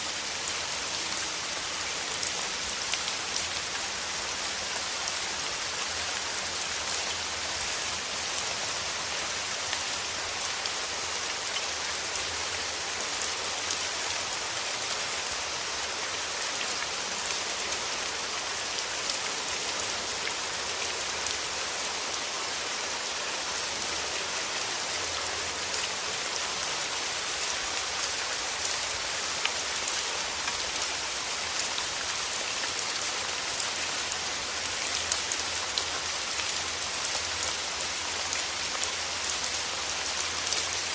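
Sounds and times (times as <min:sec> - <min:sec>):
rain on foliage and ground: 0:00.0 - 0:40.9.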